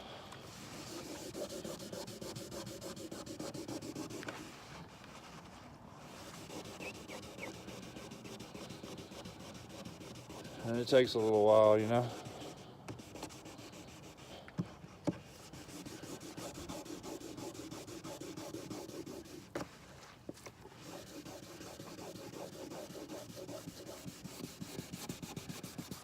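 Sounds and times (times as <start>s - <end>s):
wet sandpaper rubbing strokes: 0.5s - 14.4s, 15.2s - 19.7s, 20.7s - 26.0s.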